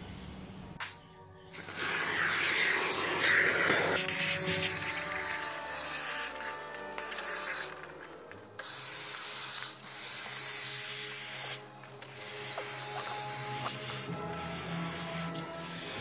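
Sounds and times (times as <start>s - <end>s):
spray foam can hissing: 1.5s - 16.0s.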